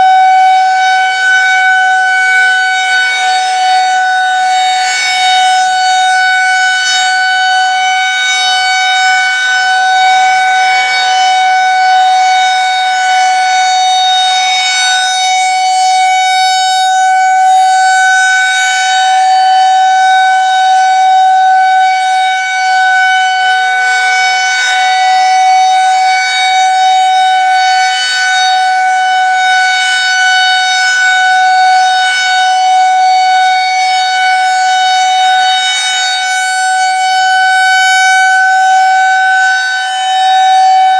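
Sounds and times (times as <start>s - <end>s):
outdoor warning siren: 0.0s - 40.9s.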